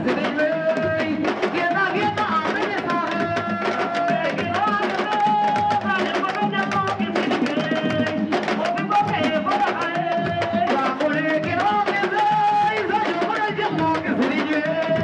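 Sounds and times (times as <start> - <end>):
steady drumming: 0.0 - 15.0.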